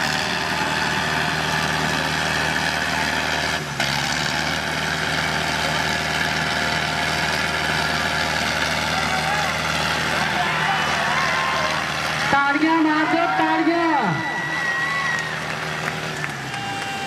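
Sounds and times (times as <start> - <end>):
diesel tractor engines running: 0.0 - 17.0.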